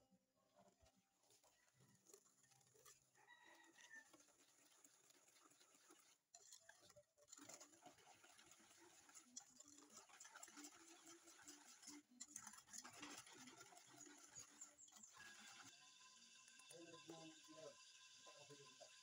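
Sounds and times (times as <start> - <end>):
whisk beating batter in metal bowl: 0.8 - 19.0.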